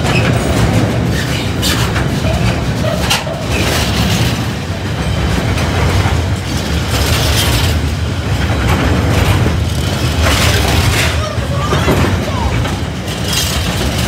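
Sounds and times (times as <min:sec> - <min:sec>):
freight train wagons rumbling: 0:00.0 - 0:14.0
train wheels clanking: 0:00.0 - 0:14.0.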